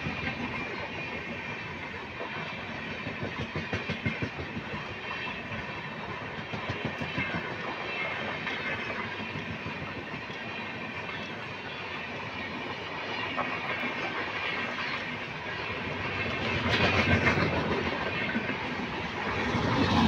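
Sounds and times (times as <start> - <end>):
train coaches passing: 0.0 - 20.0.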